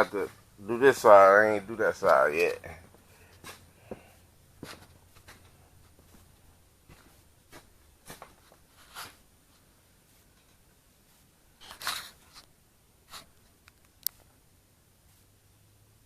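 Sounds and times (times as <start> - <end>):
rustles and knocks of handling: 0.0 - 14.4.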